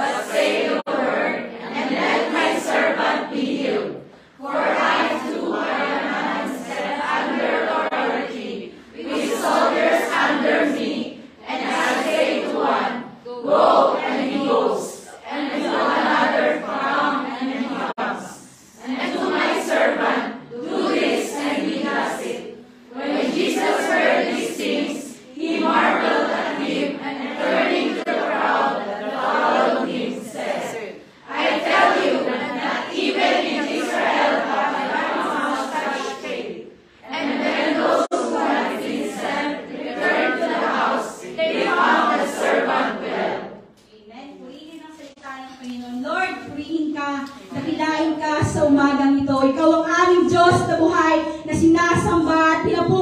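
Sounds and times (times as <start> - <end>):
congregation reading aloud in unison: 0.0 - 53.0.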